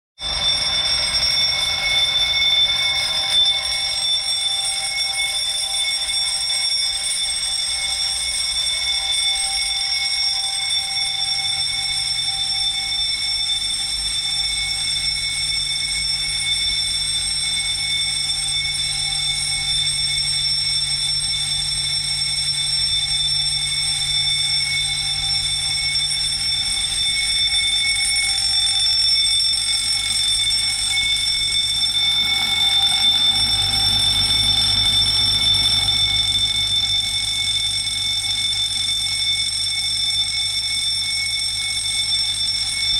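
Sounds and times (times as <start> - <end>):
fire alarm ringing: 0.2 - 42.9.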